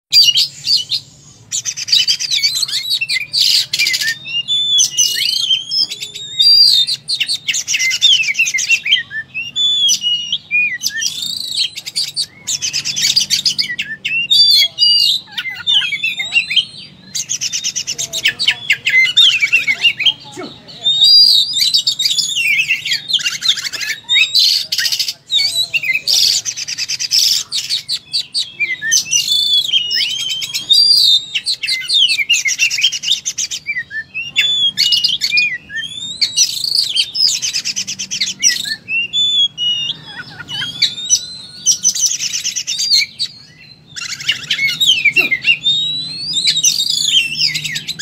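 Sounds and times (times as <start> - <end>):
bird singing: 0.1 - 48.0.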